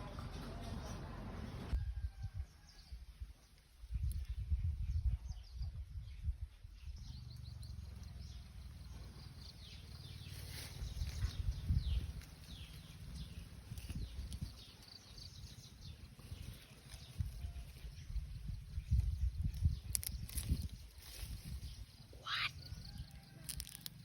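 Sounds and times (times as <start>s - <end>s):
small birds chirping: 2.6s - 23.3s.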